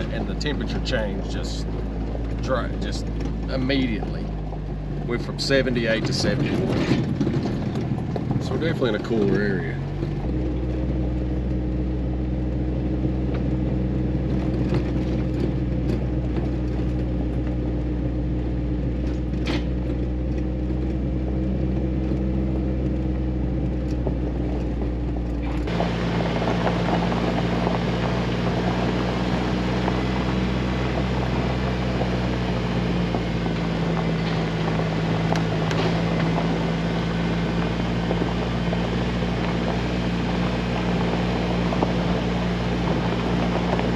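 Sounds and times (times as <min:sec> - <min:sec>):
car engine running: 0:00.0 - 0:43.9
hiss and rattle of road noise: 0:00.0 - 0:43.9
tyre and road noise: 0:00.0 - 0:43.9.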